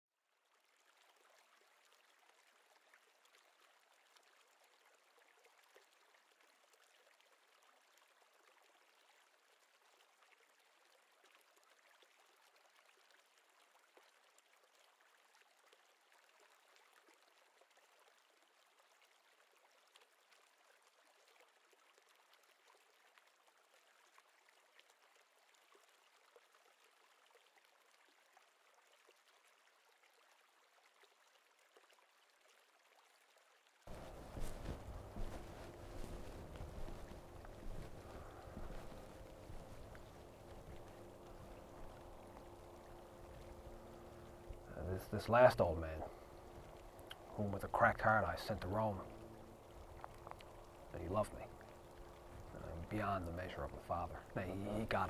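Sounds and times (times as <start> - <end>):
flowing river water: 0.2 - 55.0.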